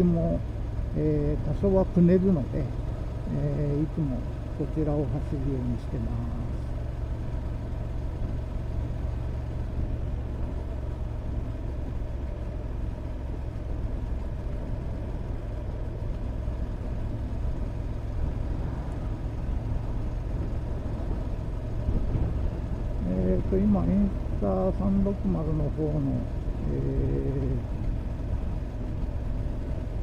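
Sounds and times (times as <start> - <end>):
motorcycle engine running: 0.0 - 30.0
road noise: 0.0 - 30.0.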